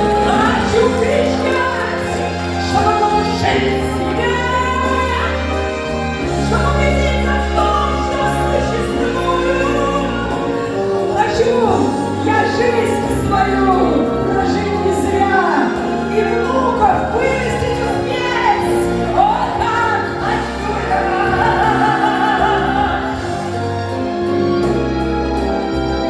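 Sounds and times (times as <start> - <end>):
woman singing pop ballad: 0.0 - 24.4
keyboard chords backing track: 0.0 - 26.0.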